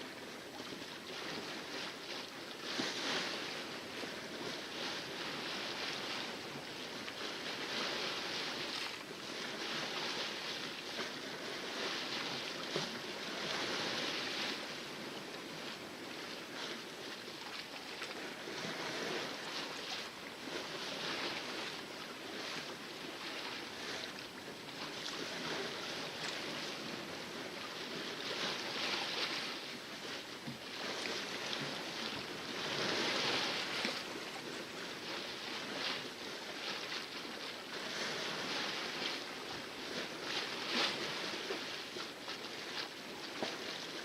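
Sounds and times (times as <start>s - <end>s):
water splashing against hull: 0.1s - 44.0s.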